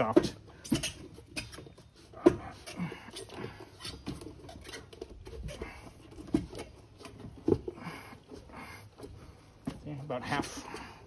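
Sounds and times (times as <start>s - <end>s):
rubber squeaking on metal: 0.0s - 11.0s.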